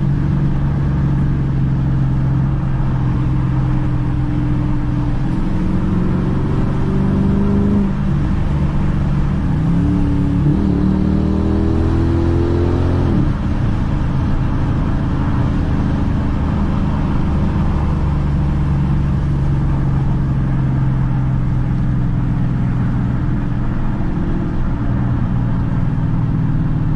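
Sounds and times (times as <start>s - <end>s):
car engine while driving: 0.0s - 26.9s.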